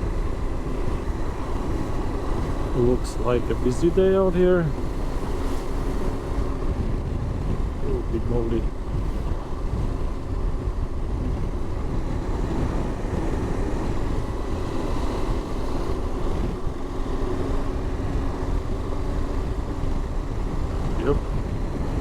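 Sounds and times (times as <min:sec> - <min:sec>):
rushing wind noise: 0:00.0 - 0:22.0.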